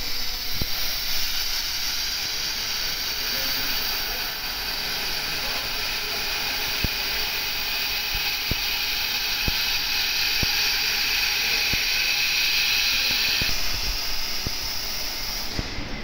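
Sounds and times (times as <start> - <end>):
gas hissing through nozzle: 0.0 - 16.0.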